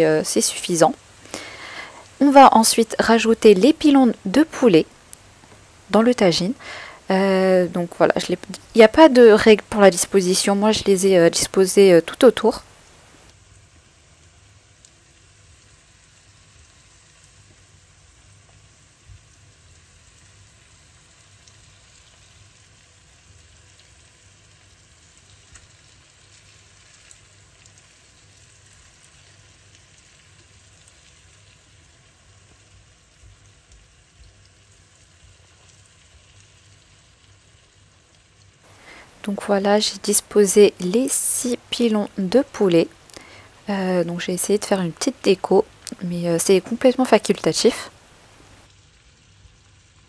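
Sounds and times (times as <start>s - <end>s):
chicken and onions sizzling in oil: 0.0s - 50.0s.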